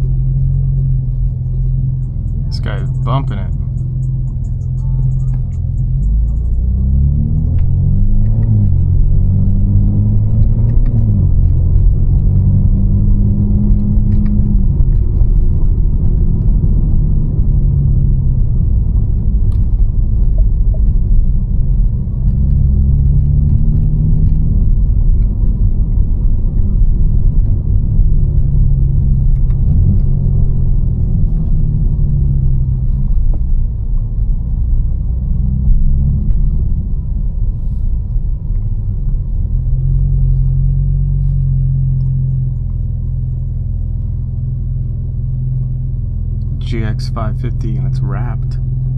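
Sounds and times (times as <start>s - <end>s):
car engine rumbling while driving: 0.0s - 48.9s.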